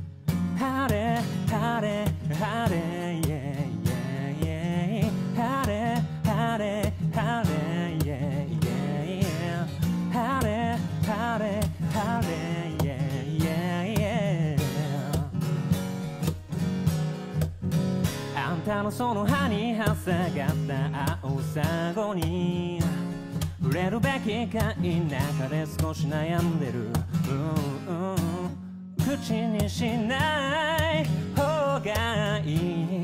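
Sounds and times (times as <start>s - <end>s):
guitar-led backing music: 0.0s - 33.0s.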